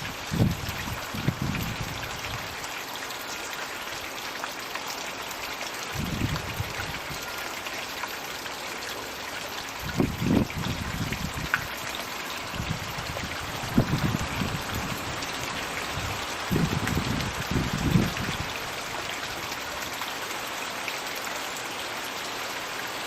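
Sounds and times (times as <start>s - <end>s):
falling water trickling and splashing: 0.0s - 23.0s.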